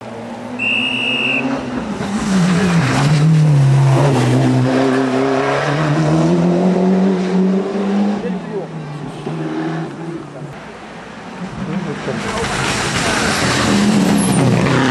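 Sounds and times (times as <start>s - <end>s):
rally car engine accelerating: 1.4s - 10.6s, 11.4s - 14.9s.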